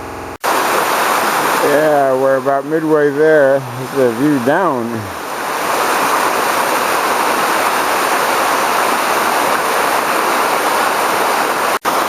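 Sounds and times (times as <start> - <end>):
waterfall rushing: 0.4 - 12.0.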